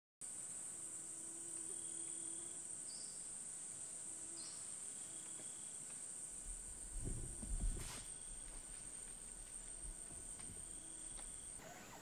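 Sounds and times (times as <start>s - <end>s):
insect chorus drone: 0.2s - 12.0s.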